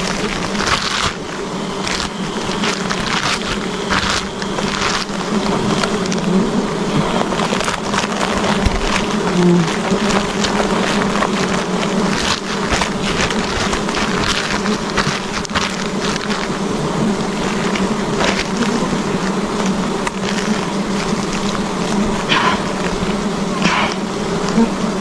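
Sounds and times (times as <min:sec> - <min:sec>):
short crackles: 0:00.0 - 0:24.7
bees buzzing: 0:00.0 - 0:25.0.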